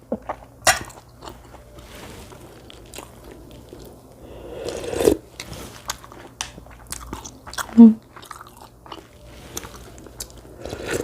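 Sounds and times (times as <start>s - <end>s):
chewing with small crunches: 0.0s - 4.2s, 5.3s - 11.0s.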